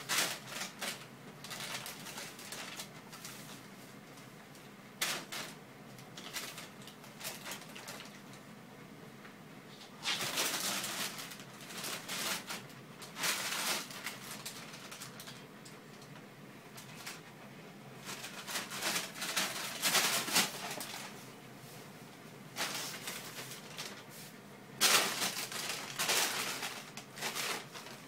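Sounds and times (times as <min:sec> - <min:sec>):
plastic bag rustling and crinkling: 0:00.0 - 0:08.4, 0:09.8 - 0:17.4, 0:18.0 - 0:21.3, 0:22.5 - 0:28.0.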